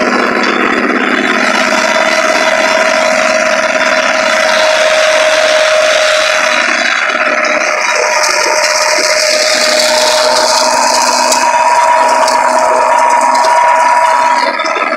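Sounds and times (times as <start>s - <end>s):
flail shredder mechanical whine: 0.0s - 14.9s.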